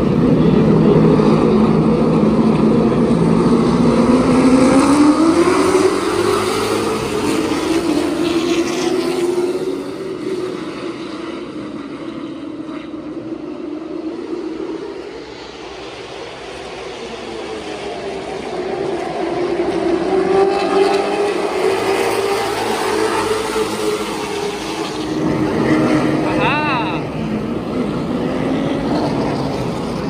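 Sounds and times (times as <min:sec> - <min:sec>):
stock car engines racing: 0:00.0 - 0:30.0.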